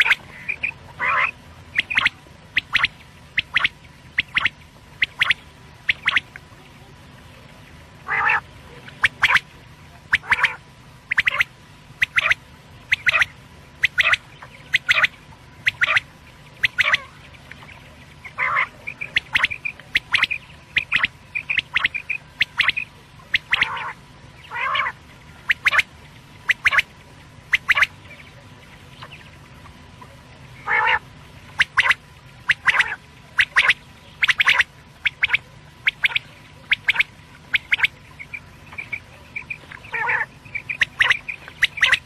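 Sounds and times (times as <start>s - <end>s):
quail calling: 0.0s - 6.4s, 8.0s - 9.5s, 10.1s - 29.4s, 30.6s - 42.0s.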